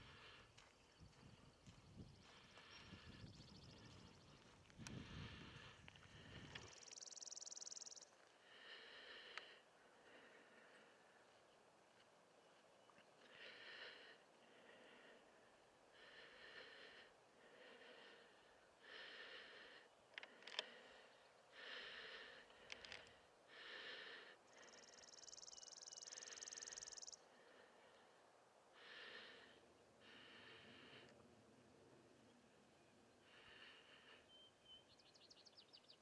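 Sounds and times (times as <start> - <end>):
heavy breathing: 0.0 - 0.7, 1.6 - 7.0, 8.2 - 11.4, 13.2 - 32.1, 33.1 - 34.3.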